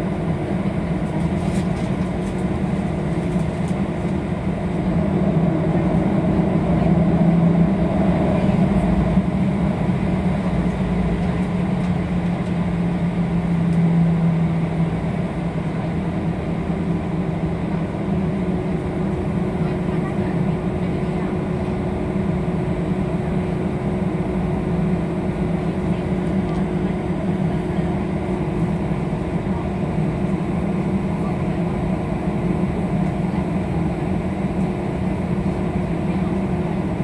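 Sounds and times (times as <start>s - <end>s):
jet engine hum in cabin: 0.0s - 37.0s.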